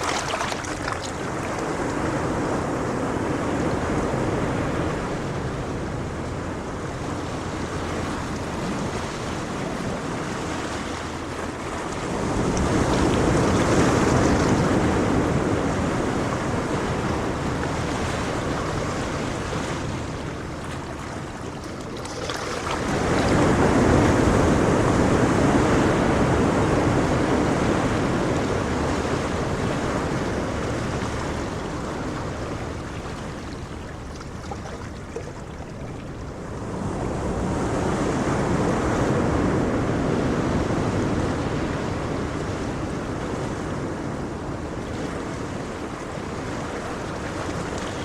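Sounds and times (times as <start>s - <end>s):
ocean waves washing in: 0.0s - 48.0s.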